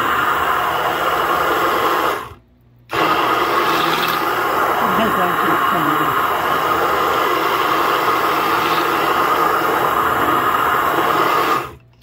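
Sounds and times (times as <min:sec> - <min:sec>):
immersion blender running in jar: 0:00.0 - 0:12.0.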